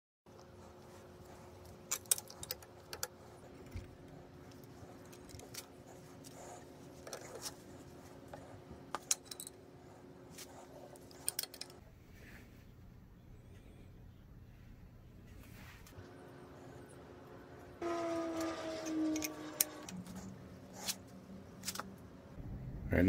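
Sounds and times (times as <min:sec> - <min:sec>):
faint steady hum: 0:00.3 - 0:23.0.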